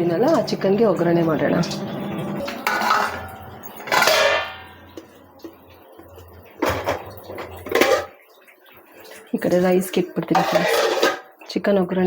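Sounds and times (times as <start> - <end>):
metal pots ringing and scraping: 0.0 - 11.4.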